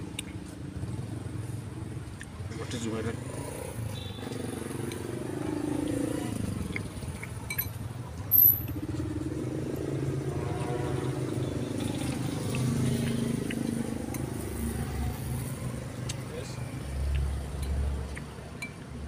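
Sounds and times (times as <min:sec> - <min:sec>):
vehicle engines droning: 0:00.0 - 0:19.0.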